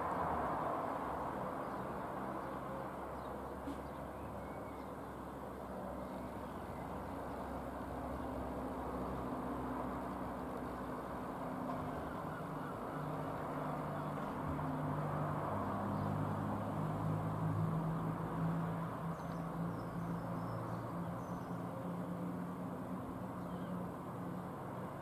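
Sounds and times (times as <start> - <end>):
propeller aircraft droning overhead: 0.0 - 25.0.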